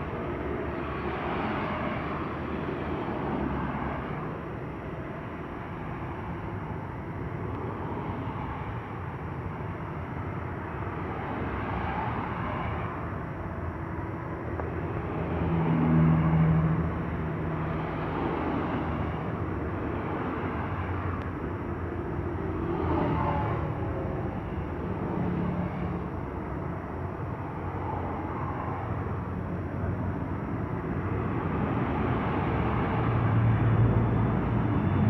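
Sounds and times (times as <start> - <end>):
airliner engines running: 0.0 - 35.0.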